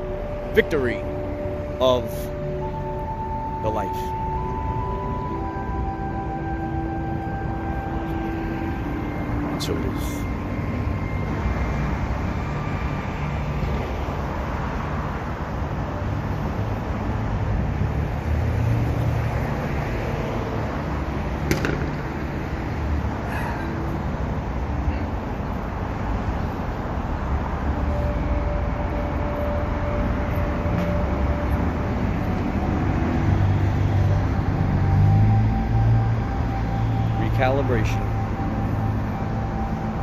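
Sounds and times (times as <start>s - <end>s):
passing cars rumble: 0.0s - 40.0s.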